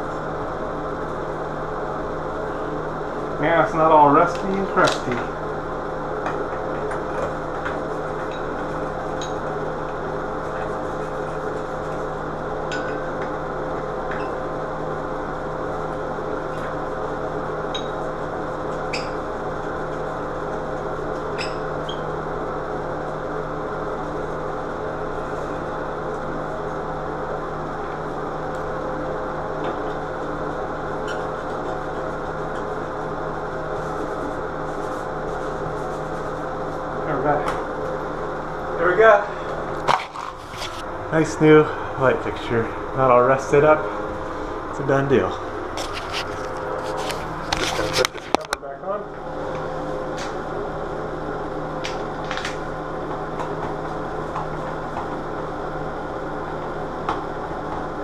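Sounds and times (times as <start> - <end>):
ventilation fan humming: 0.0 - 58.0.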